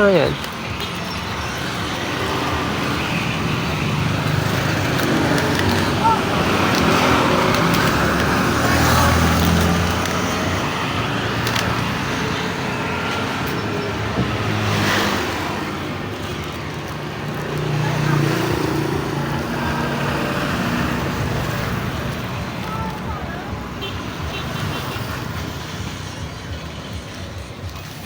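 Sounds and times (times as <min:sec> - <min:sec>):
faint voices: 0:00.0 - 0:14.7, 0:15.6 - 0:25.4.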